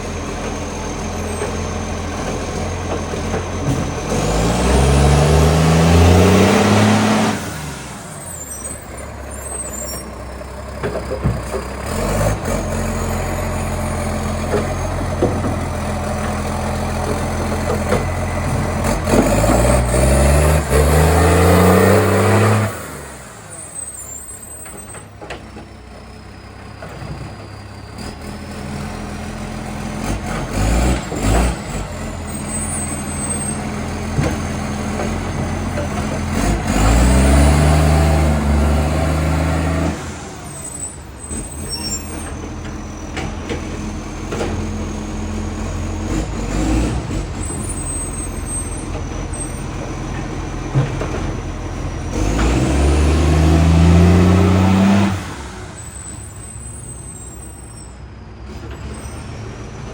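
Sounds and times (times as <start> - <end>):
loud diesel truck engine revving: 0.0 - 59.9.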